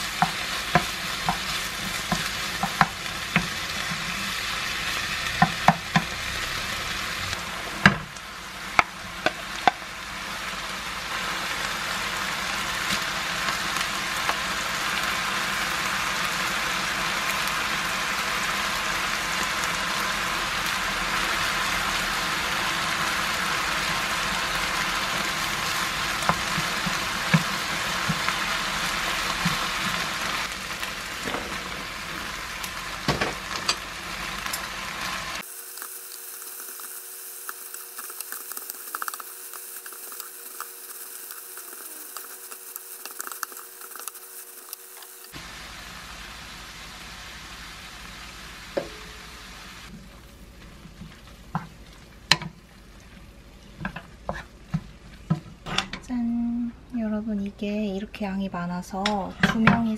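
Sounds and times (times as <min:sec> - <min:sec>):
food sizzling in a frying pan: 0:00.0 - 0:55.8.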